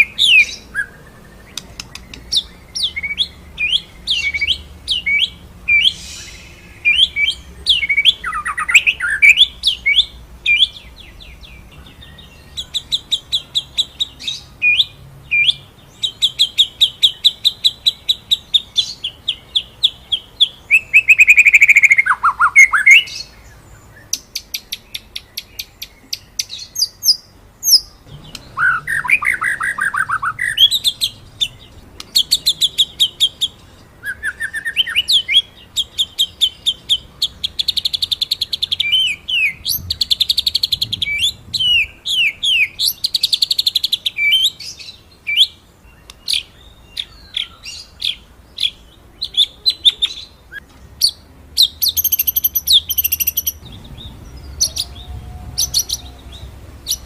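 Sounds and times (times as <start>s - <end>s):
songbird singing trills: 0.0s - 57.0s.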